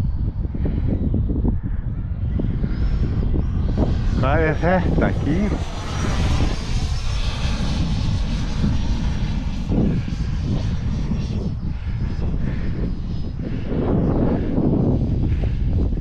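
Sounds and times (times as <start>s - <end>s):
electric ducted fans whirring: 0.0s - 16.0s
wind buffeting microphone: 0.0s - 16.0s.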